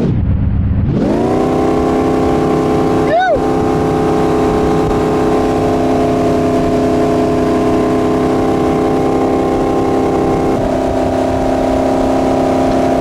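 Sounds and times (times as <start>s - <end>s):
boat engine droning: 1.0s - 13.0s.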